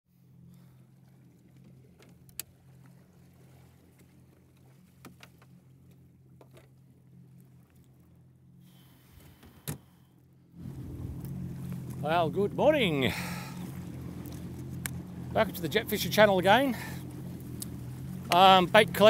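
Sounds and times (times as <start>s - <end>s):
jet ski engine idling: 0.2s - 19.0s.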